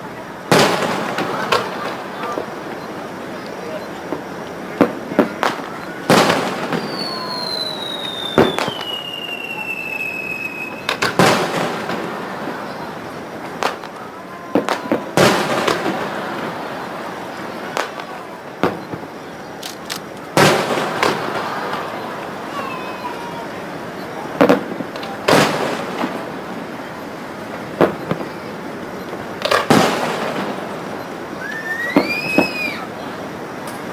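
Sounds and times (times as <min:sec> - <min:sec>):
falling firework whistle: 0:00.0 - 0:33.9
fireworks booming: 0:00.0 - 0:33.9
firework cracks and pops: 0:00.4 - 0:33.9.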